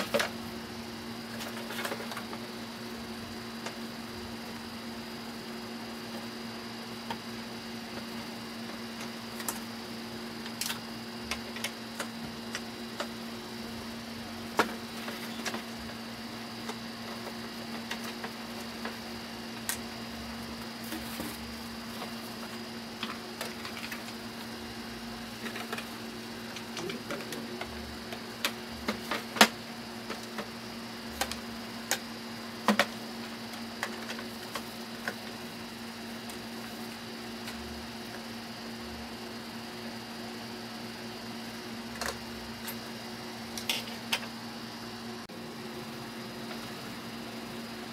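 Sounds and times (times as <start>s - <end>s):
electrical hum: 0.0s - 47.9s.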